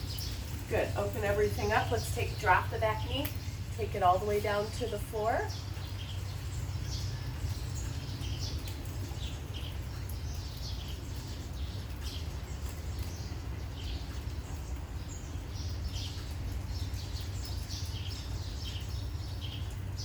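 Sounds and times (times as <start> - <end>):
birds chirping: 0.0 - 20.0
rain falling: 0.0 - 20.0.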